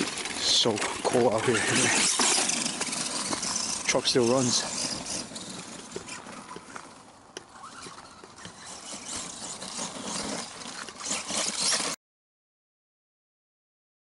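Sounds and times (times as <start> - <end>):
rc truck tyres crackling on dirt: 0.0 - 12.0.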